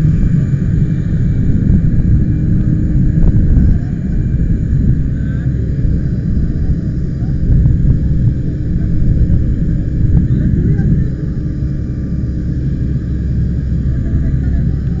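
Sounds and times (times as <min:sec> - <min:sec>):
faint hum: 0:00.0 - 0:15.0
low rumble: 0:00.0 - 0:15.0
faint voices: 0:02.4 - 0:15.0.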